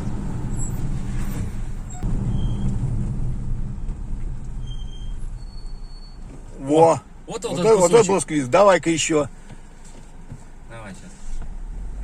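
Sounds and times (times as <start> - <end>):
brake squeals: 0.0 - 3.0, 3.8 - 12.0
road and engine rumble: 0.0 - 12.0.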